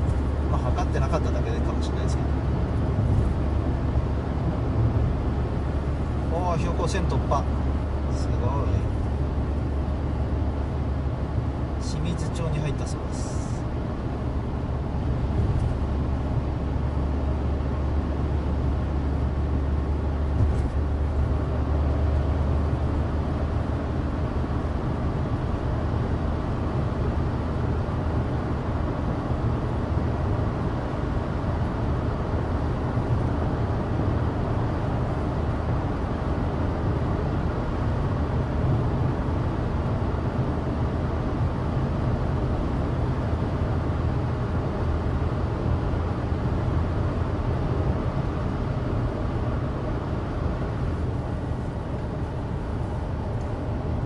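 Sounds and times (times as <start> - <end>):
car engine droning: 0.0 - 54.0
tyre road noise: 0.0 - 54.0.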